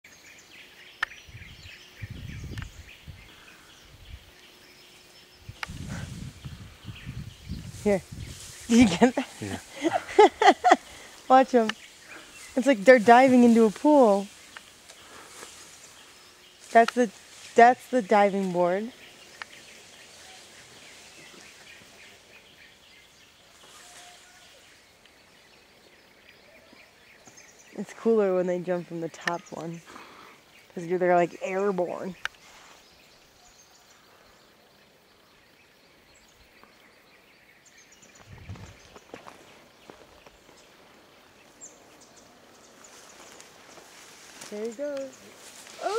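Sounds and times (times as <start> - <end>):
steady hiss: 0.1 - 28.4, 29.5 - 45.9.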